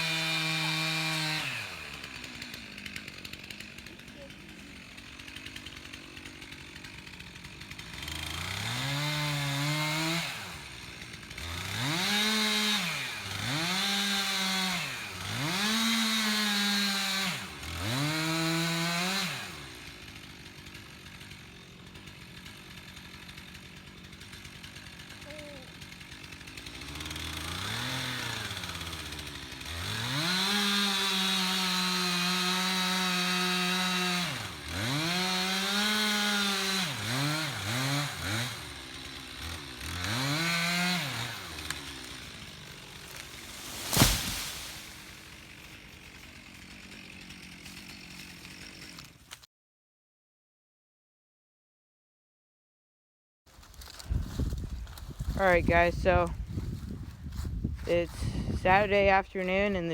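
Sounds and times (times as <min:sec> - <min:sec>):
chainsaw revving and cutting: 0:00.0 - 0:49.5, 0:53.5 - 0:59.9.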